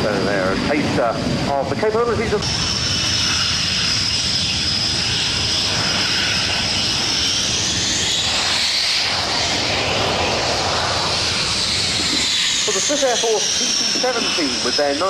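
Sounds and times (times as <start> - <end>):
broad rushing noise: 0.0 - 15.0
jet engines whining: 0.0 - 15.0.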